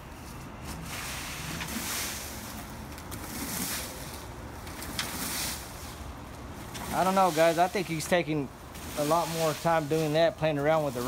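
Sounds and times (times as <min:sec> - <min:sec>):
rakes scraping through dry leaves: 0:00.0 - 0:11.0.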